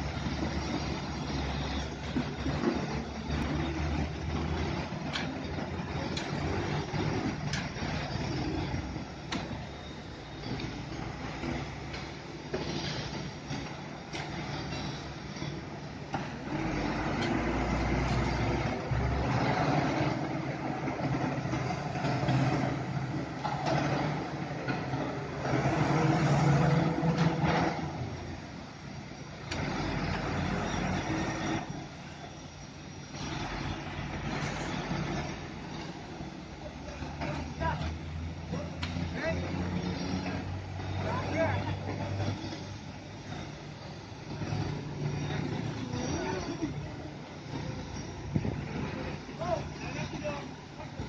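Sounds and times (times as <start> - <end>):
diesel truck engine running: 0.0 - 51.0.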